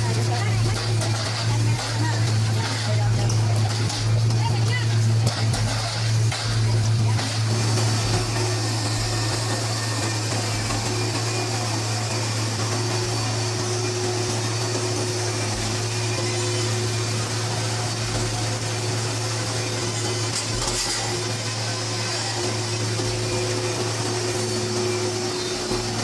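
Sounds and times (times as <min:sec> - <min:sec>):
machine drone: 0:00.0 - 0:26.0.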